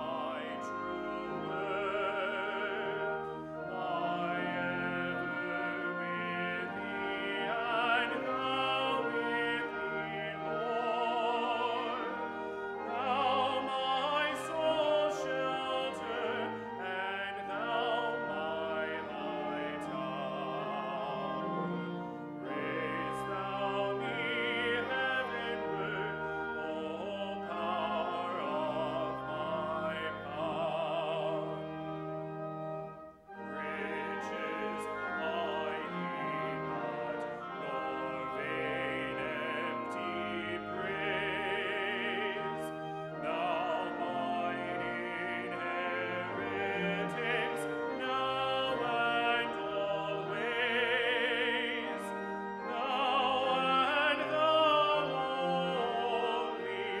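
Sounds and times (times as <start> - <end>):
man singing operatically: 0.0 - 12.2, 12.8 - 31.7, 33.6 - 57.0
cello: 0.0 - 57.0.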